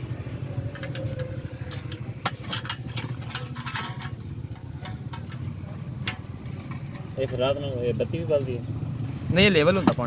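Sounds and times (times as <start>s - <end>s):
low engine-like hum: 0.0s - 9.7s.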